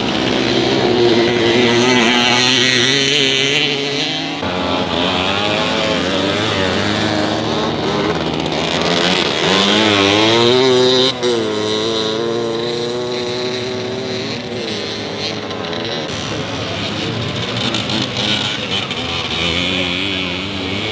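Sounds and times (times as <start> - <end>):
motorcycle engines revving past: 0.0 - 20.9.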